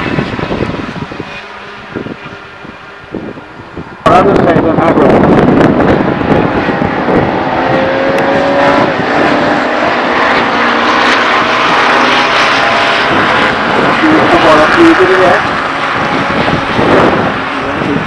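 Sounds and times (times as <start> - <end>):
racing car engines at full throttle: 0.0 - 18.0.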